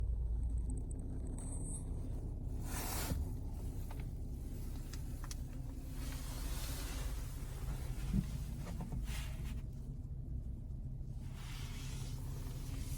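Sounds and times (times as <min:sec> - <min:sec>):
car cabin low rumble: 0:00.0 - 0:12.9.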